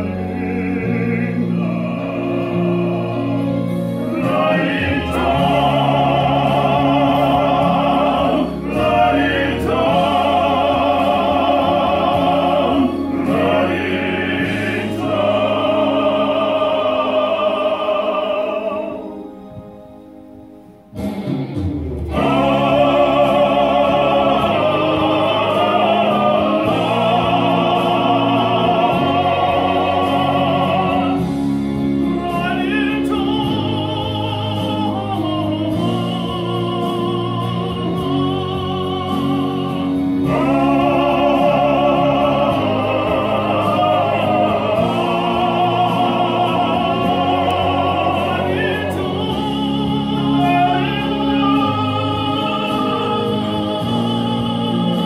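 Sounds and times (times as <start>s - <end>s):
male choir singing a cappella: 0.0s - 19.3s, 22.1s - 55.0s.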